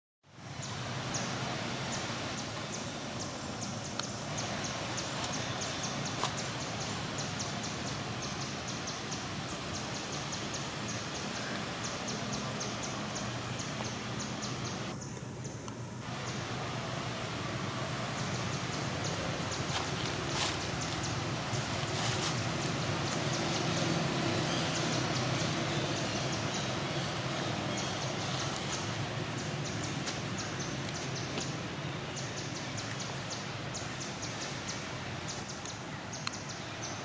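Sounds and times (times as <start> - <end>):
background hiss: 0.3 - 37.0.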